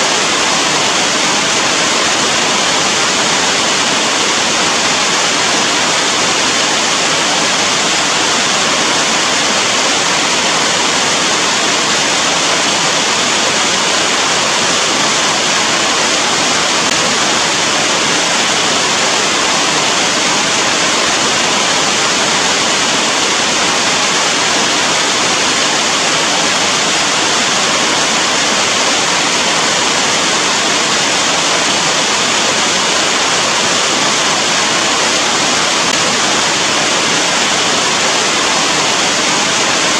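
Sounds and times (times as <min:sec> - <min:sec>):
rain falling steadily: 0:00.1 - 0:39.9.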